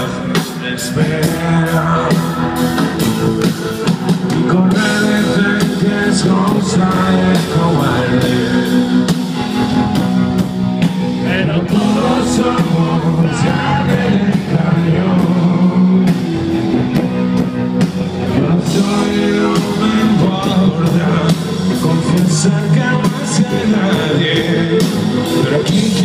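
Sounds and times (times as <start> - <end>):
person singing: 0.0 - 9.7, 11.0 - 17.5, 18.1 - 26.0
rock band playing live: 0.0 - 26.0.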